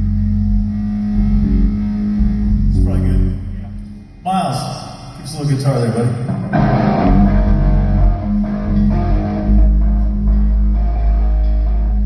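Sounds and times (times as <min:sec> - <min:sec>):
bass guitar: 0:00.0 - 0:12.0
electric guitar through amplifier: 0:00.0 - 0:12.0.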